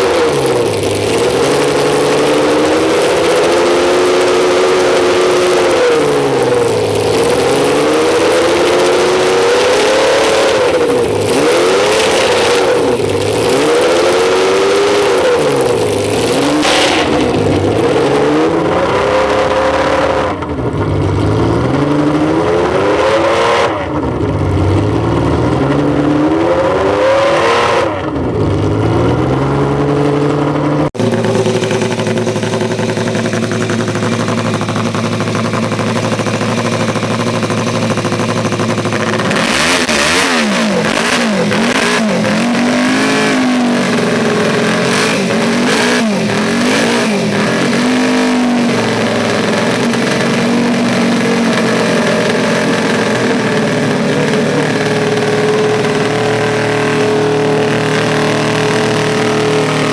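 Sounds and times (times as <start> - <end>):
engine idling: 0.0 - 23.1, 28.0 - 59.9
car engine revving: 0.0 - 59.9.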